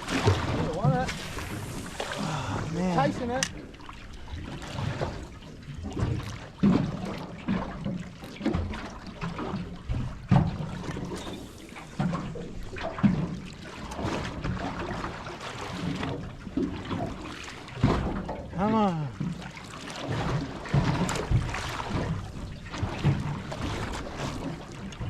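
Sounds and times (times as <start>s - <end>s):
water lapping against boat hull: 0.0s - 25.0s.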